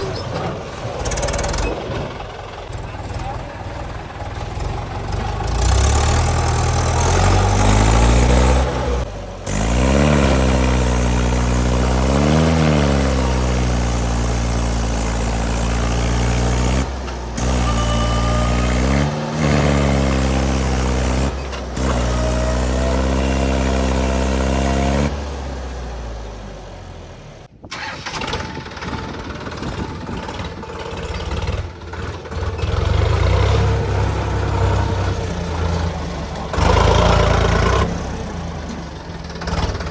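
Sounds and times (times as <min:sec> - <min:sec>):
low rough engine: 0:00.0 - 0:39.9
tractor engines revving: 0:00.0 - 0:39.9.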